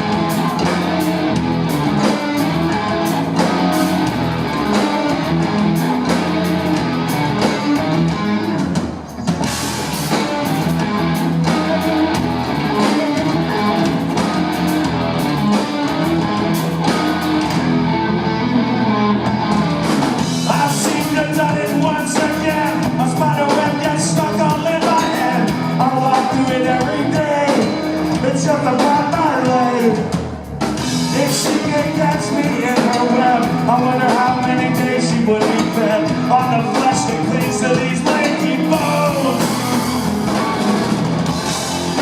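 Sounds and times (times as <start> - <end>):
rock band playing: 0.0 - 42.0.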